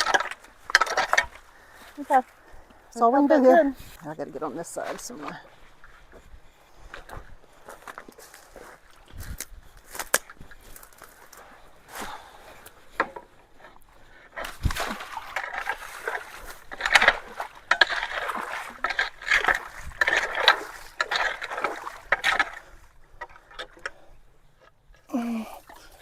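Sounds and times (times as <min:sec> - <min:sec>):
water sloshing: 0:00.0 - 0:26.0.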